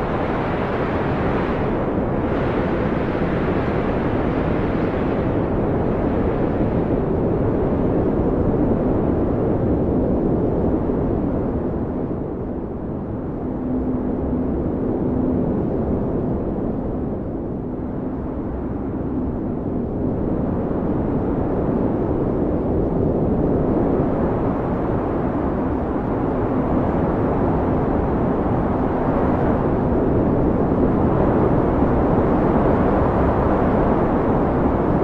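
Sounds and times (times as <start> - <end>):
blizzard wind blowing hard: 0.0 - 35.0.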